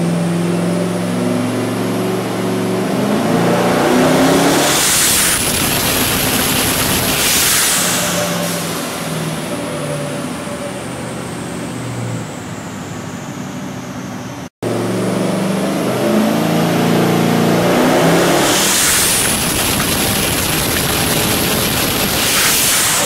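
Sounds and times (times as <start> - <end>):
car engine on dyno with whine: 0.0 - 23.0.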